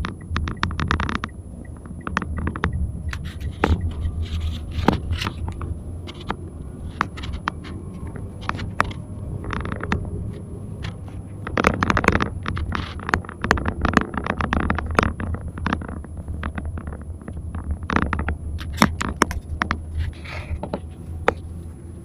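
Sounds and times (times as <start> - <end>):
sharp clicks and scraping rattles: 0.0 - 21.8
road and engine rumble: 0.0 - 22.0.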